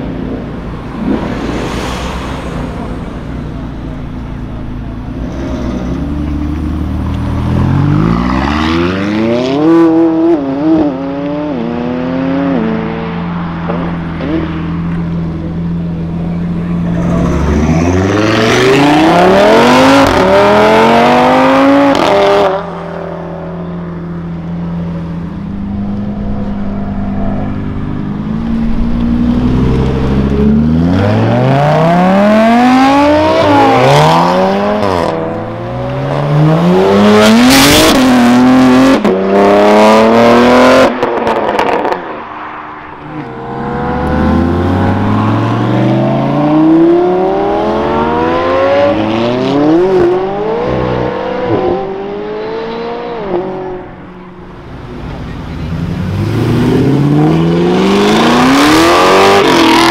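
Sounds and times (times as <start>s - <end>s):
cars accelerating hard: 0.0s - 59.9s.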